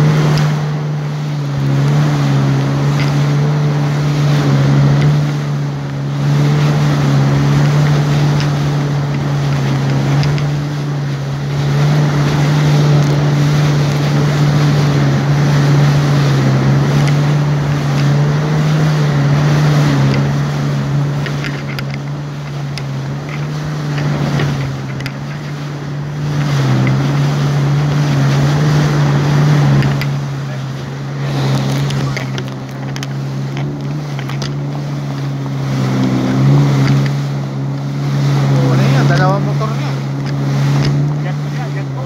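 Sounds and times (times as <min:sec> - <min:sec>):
jet ski engine running: 0:00.0 - 0:42.0
wind: 0:00.0 - 0:42.0.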